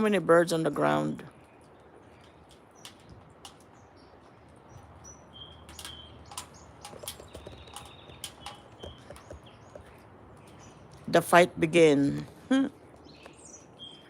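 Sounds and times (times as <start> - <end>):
starlings chattering: 0.0 - 14.0.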